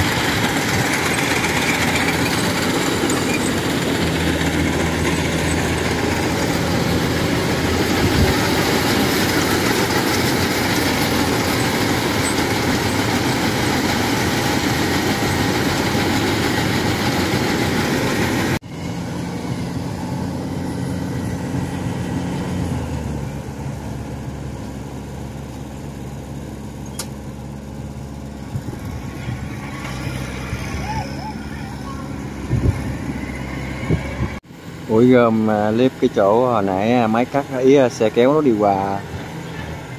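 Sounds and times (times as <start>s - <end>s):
combine harvester running: 0.0s - 39.9s
distant engine hum: 0.0s - 39.9s.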